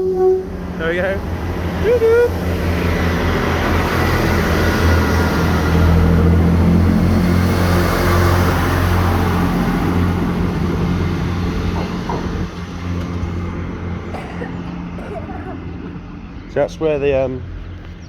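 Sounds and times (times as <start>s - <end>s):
train diesel engines running: 0.0s - 18.0s.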